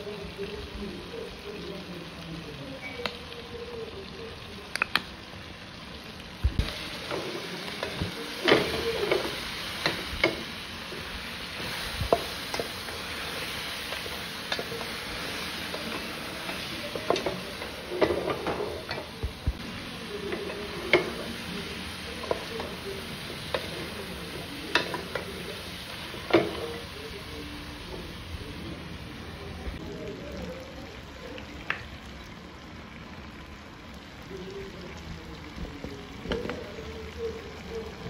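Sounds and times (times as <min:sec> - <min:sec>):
meat sizzling in a pot: 0:00.0 - 0:38.0.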